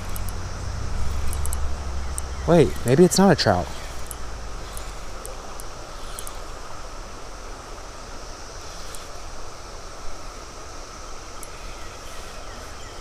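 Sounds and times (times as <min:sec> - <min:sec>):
creek water rushing: 0:00.0 - 0:13.0
wind rumbling on microphone: 0:00.0 - 0:13.0.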